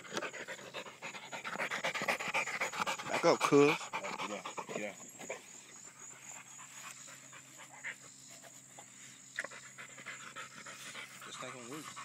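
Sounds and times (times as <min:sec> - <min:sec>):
large dog panting faintly: 0:00.0 - 0:12.0.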